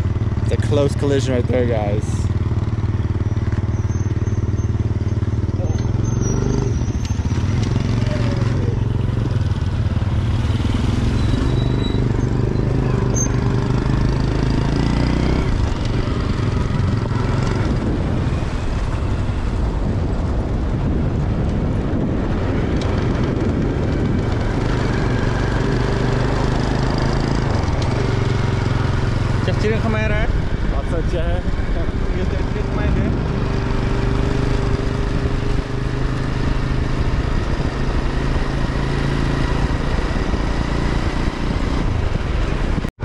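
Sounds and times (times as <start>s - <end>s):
wind rushing over microphone: 6.6s - 43.0s.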